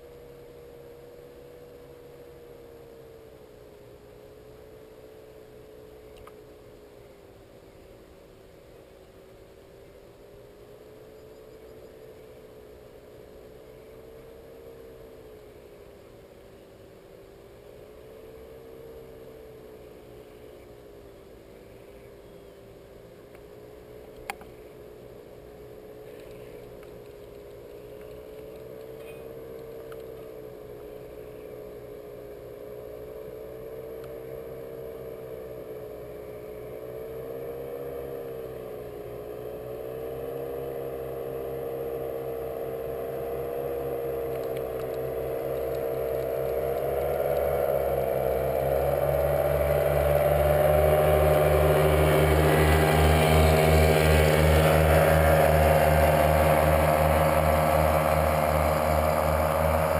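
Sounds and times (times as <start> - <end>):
paramotor engine droning: 0.0 - 59.9.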